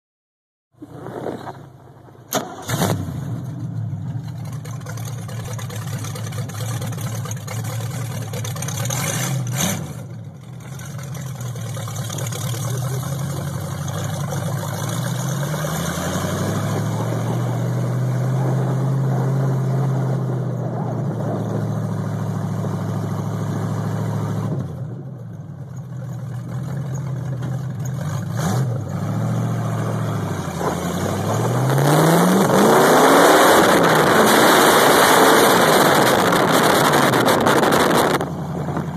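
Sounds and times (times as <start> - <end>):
car engine starting and revving: 0.8 - 25.1, 26.0 - 38.9.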